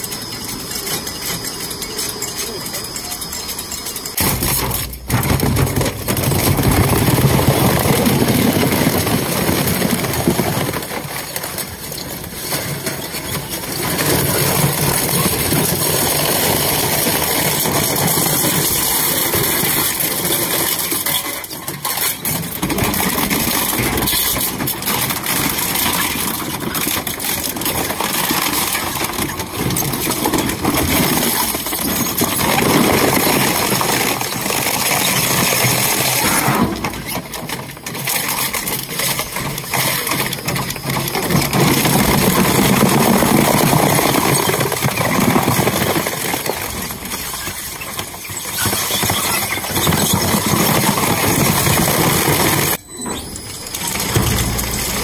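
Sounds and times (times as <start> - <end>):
shredder grinding and crunching metal: 0.0 - 55.0.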